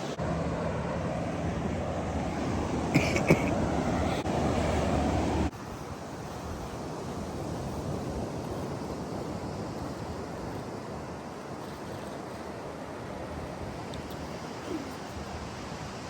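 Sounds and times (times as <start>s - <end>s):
ocean surf on beach: 0.0s - 16.0s.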